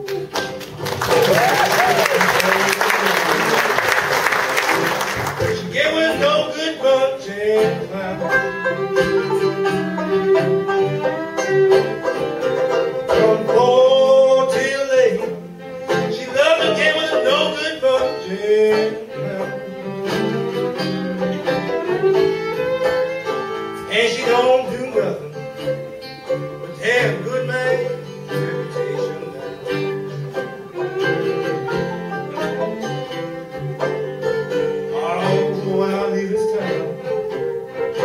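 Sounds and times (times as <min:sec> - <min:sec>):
banjo: 0:00.0 - 0:38.0
fiddle melody: 0:00.0 - 0:38.0
guitar: 0:00.0 - 0:38.0.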